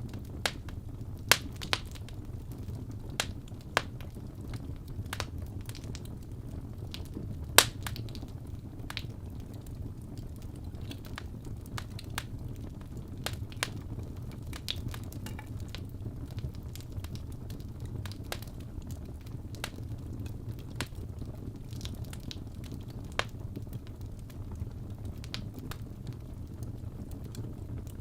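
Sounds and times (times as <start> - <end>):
fire crackles and pops: 0.0 - 28.0
low rumble of flames: 0.0 - 28.0.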